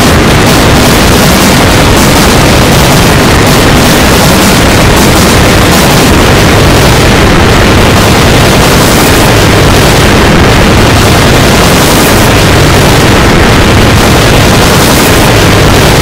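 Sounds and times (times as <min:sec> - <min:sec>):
harsh distorted noise: 0:00.0 - 0:16.0.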